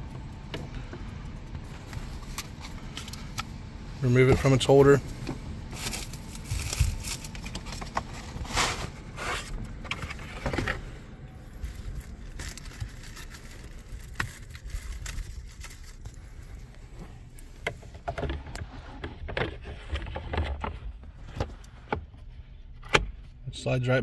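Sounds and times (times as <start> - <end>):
air filter rustling and scraping: 0.1 - 23.4.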